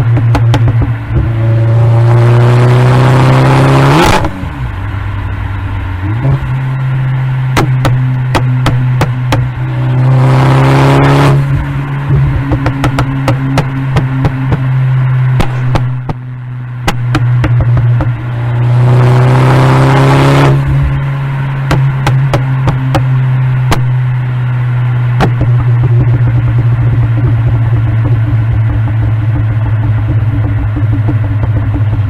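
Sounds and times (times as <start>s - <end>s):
car engine droning: 0.0s - 32.0s
engine revving: 0.0s - 32.0s
exhaust pops and crackles: 0.0s - 32.0s.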